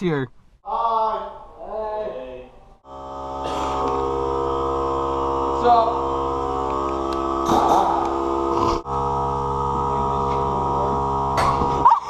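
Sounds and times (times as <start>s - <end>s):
electrical hum: 2.3s - 12.0s.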